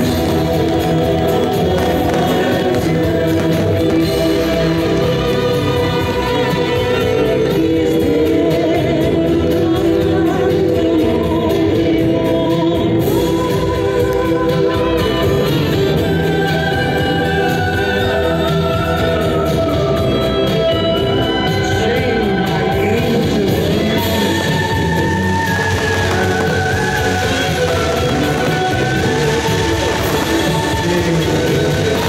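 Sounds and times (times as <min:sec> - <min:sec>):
choral singing on long notes: 0:00.0 - 0:32.0.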